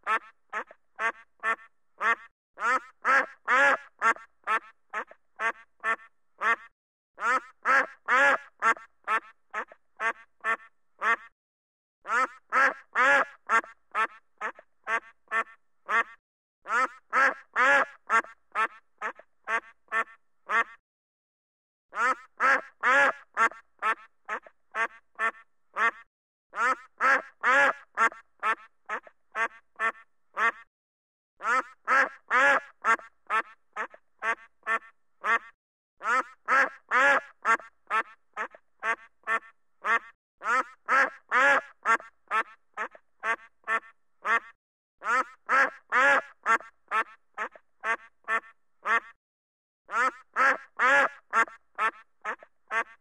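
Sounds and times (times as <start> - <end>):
duck quacking: 0.0 - 11.3, 12.0 - 20.8, 21.9 - 30.7, 31.4 - 49.2, 49.9 - 53.0.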